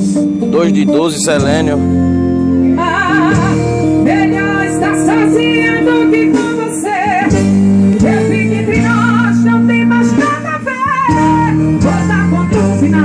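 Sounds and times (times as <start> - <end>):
loud music with singing and guitar: 0.0 - 13.0.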